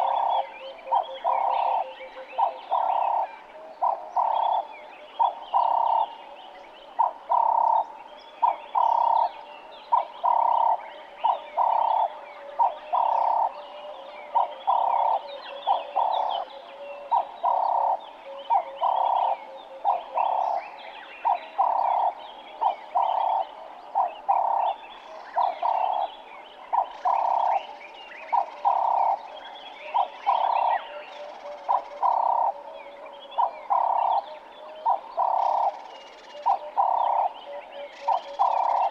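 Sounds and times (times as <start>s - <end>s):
birds chirping: 0.0s - 3.2s, 3.8s - 38.9s
dove cooing: 0.0s - 6.2s, 7.0s - 7.8s, 8.4s - 20.6s, 21.2s - 24.8s, 25.4s - 35.8s, 36.4s - 38.9s.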